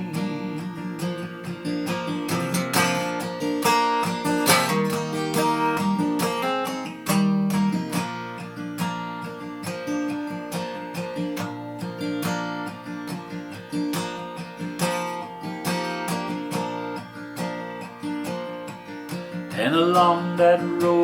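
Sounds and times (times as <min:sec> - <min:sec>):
acoustic guitar picking and strumming: 0:00.0 - 0:21.0.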